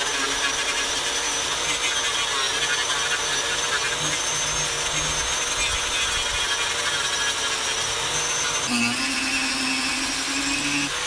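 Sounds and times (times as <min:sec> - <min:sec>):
electric rotary tool grinding: 0:00.0 - 0:11.0.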